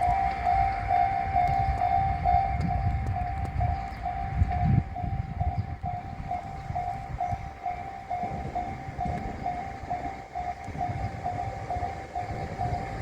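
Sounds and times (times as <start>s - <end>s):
level crossing alarm dinging: 0.0s - 13.0s
train rumbling on tracks: 0.0s - 13.0s.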